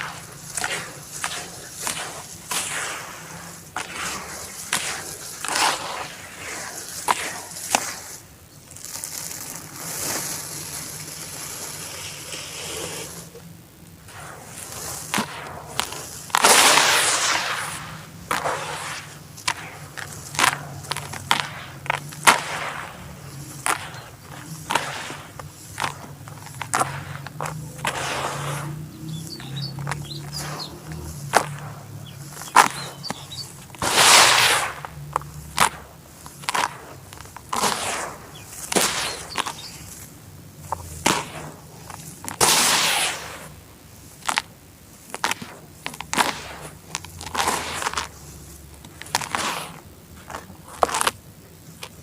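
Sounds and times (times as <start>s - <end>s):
charcoal crumbling and crunching: 0.0s - 52.0s.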